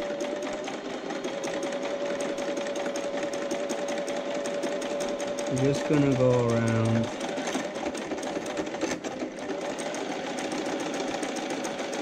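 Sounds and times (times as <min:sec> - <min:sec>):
electric sewing machine stitching: 0:00.0 - 0:12.0.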